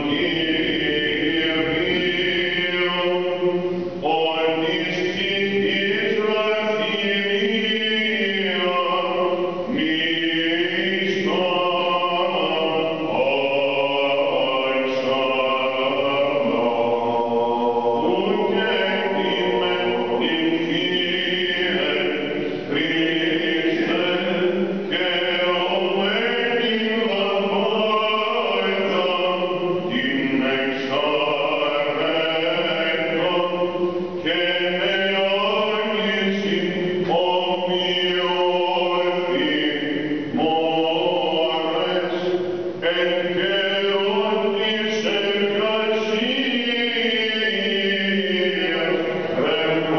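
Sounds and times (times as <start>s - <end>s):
person chanting unaccompanied: 0.0s - 49.9s.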